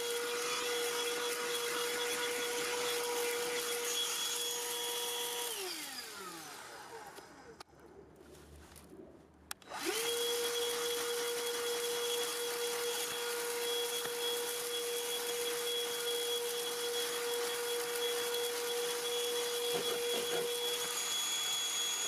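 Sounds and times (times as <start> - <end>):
handheld vacuum motor whine: 0.0 - 7.5, 9.6 - 22.0.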